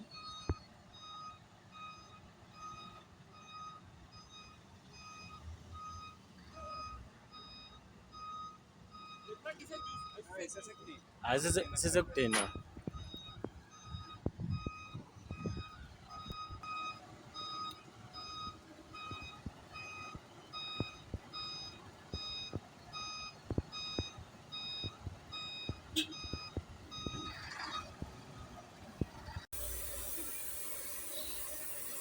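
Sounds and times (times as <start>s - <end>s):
reversing alarm beeping: 0.0s - 28.0s, 29.1s - 32.0s.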